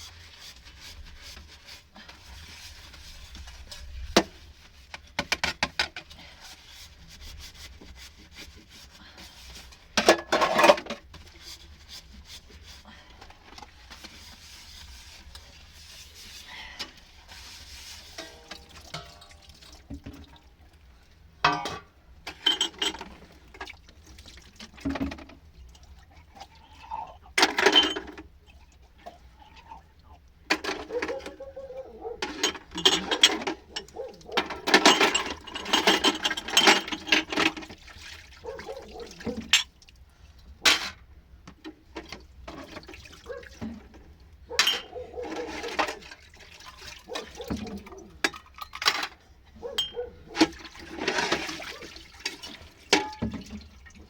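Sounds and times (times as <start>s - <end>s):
water pouring and splashing: 0.0s - 21.6s, 22.3s - 41.1s, 41.8s - 49.0s, 50.0s - 54.0s.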